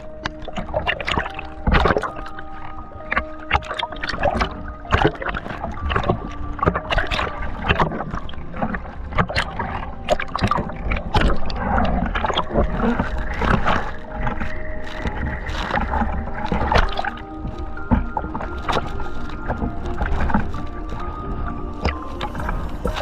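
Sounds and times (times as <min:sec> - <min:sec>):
sea water splashing and sloshing: 0:00.0 - 0:23.0
wind rumble on microphone: 0:00.0 - 0:23.0.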